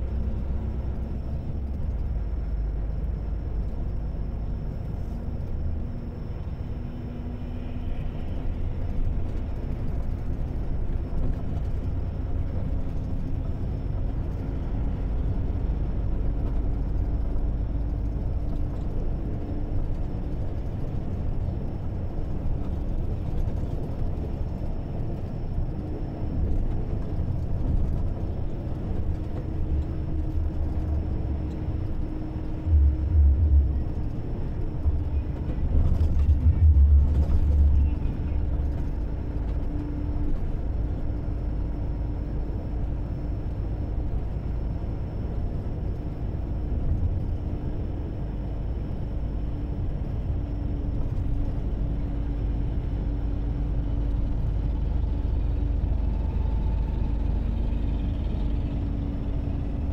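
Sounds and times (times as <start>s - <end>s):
faint engine hum: 0.0s - 59.9s
vehicle road rumble: 0.0s - 59.9s.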